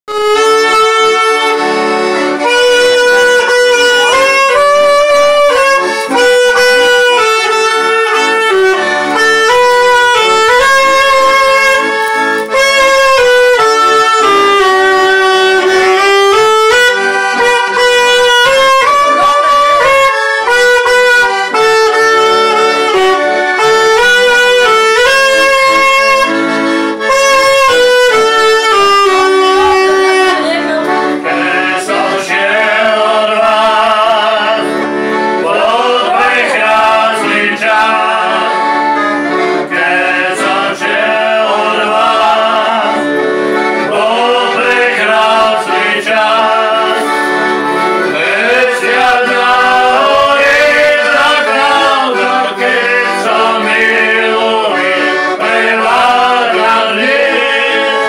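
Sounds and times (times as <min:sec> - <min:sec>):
accordion accompaniment: 0:00.0 - 0:58.0
saxophone melody: 0:00.1 - 0:58.0.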